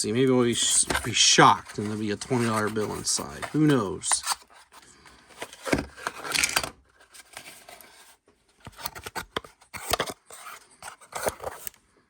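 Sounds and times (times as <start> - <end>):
cardboard rustling: 0.0 - 11.8.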